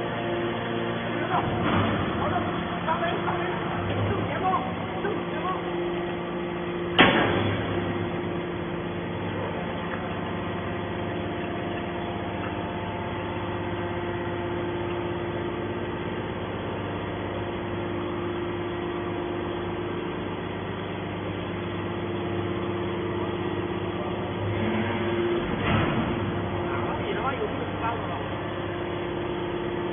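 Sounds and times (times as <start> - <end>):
hydraulic baling press humming: 0.0 - 29.9.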